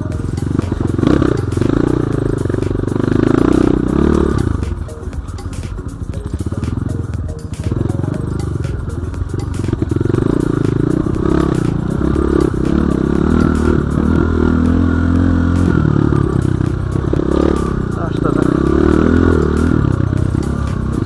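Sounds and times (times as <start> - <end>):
dirt bike engine revving: 0.0 - 5.0, 6.1 - 21.0.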